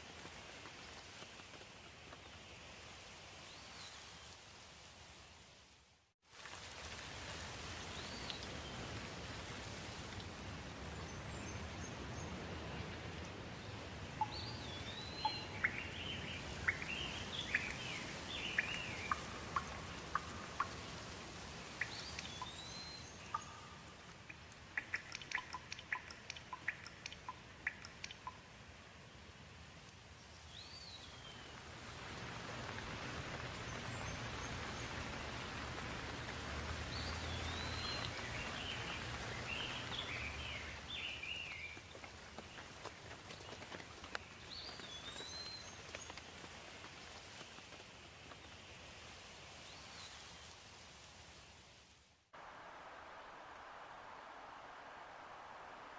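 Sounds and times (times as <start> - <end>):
steady background hiss: 0.0 - 55.9.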